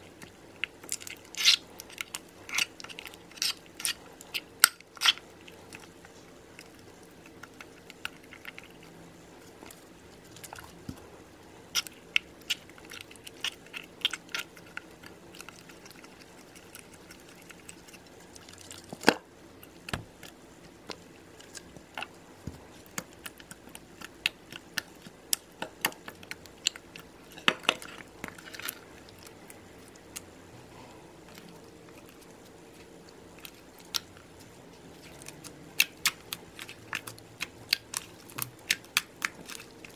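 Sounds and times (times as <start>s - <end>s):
slime squelching: 0.0s - 39.9s.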